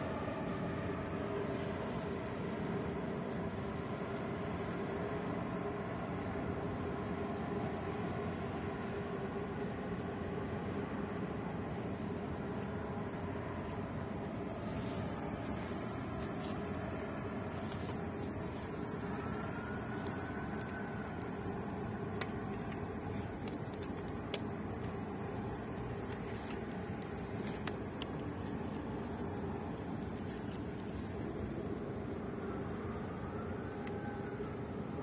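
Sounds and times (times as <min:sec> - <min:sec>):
low rumble of ship: 0:00.0 - 0:35.0.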